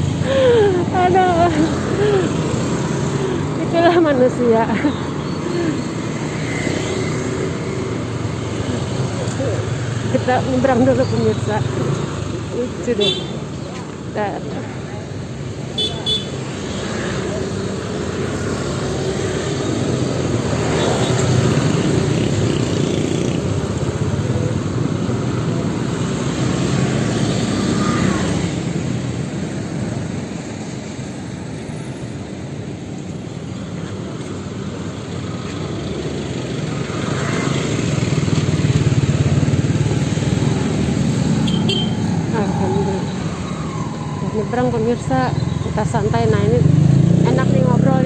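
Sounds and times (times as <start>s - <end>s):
motorcycles driving past: 0.0s - 30.0s, 33.9s - 48.0s.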